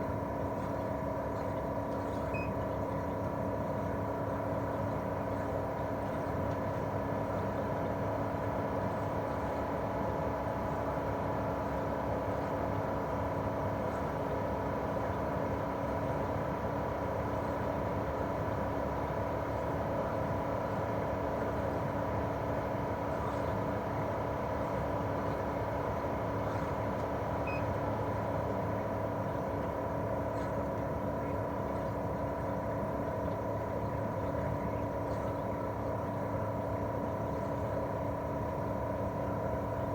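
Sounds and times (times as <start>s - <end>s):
air conditioner unit humming: 0.0s - 39.9s.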